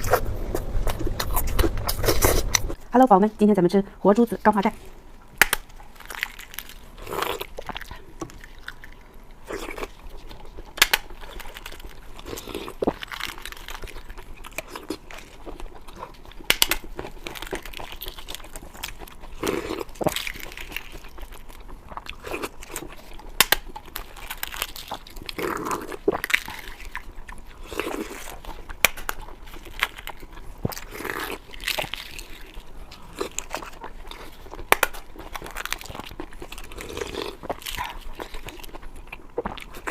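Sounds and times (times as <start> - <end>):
chewing and mouth smacks: 5.4 - 39.9
crunchy bite: 5.4 - 39.9.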